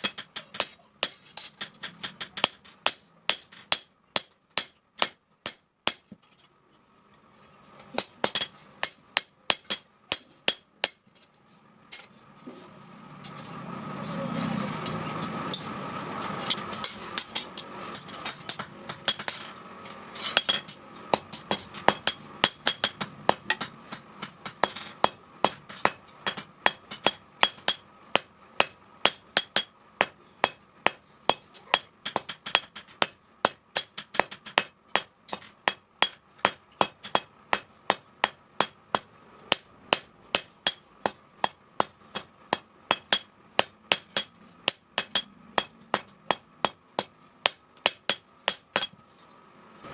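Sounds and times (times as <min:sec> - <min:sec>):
hammer striking steel on anvil: 0:00.0 - 0:06.2, 0:08.0 - 0:11.0, 0:15.0 - 0:19.6, 0:20.2 - 0:49.0.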